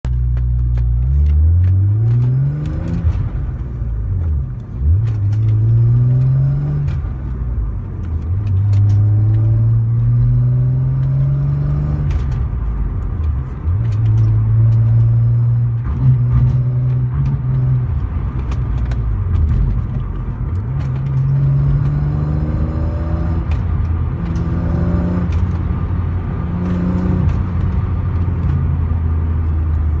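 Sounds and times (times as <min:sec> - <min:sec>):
car engine revving: 0:00.1 - 0:30.0.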